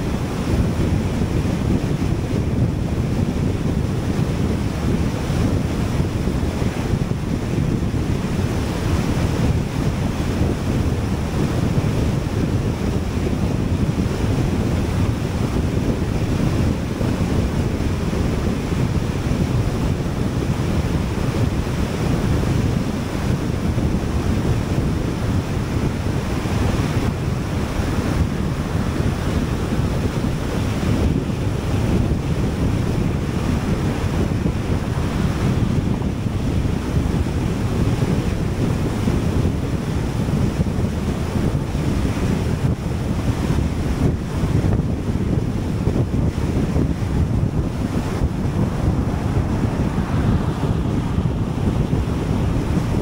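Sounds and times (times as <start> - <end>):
rushing air: 0.0 - 53.0.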